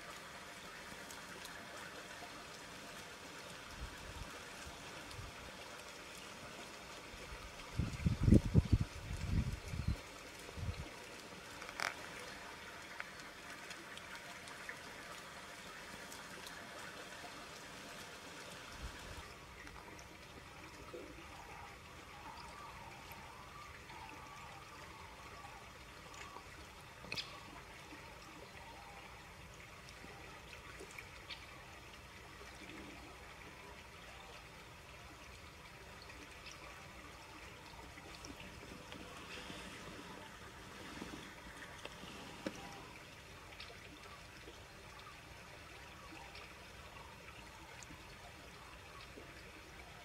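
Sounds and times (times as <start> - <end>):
stream water trickling: 0.0 - 50.0.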